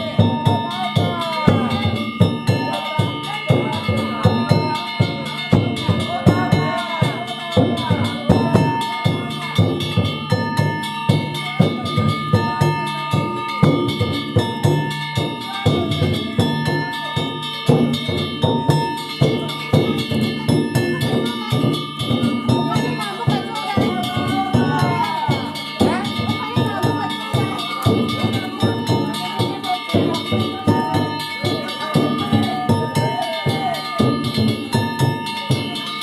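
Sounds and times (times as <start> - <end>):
drums beating fast: 0.0 - 36.0
small hand gongs ringing: 0.0 - 36.0.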